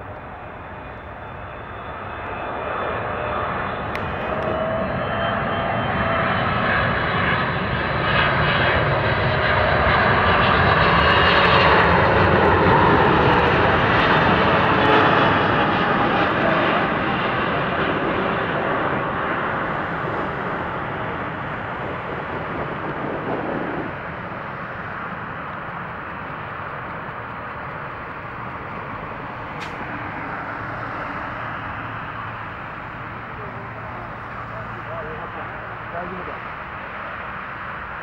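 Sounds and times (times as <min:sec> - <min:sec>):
jet airliner flying past: 0:00.0 - 0:38.0.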